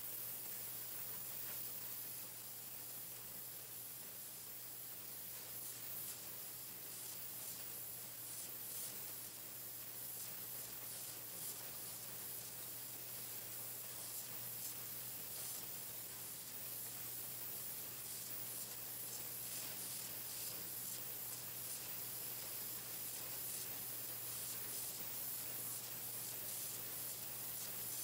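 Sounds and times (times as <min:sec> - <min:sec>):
painting machine hissing and humming: 0:00.0 - 0:28.0.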